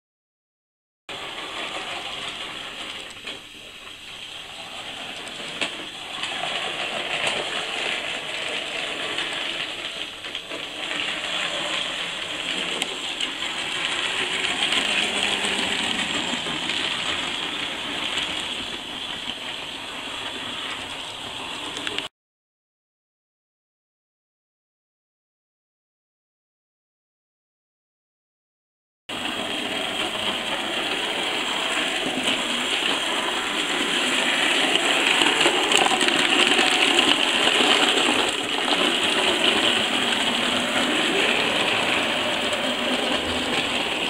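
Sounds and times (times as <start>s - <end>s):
model train motor whirring: 1.1s - 22.1s, 29.1s - 44.0s.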